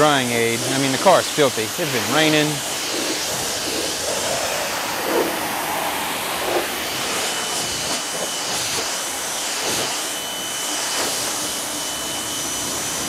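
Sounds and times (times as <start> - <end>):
hose water spraying on car: 0.0 - 12.0.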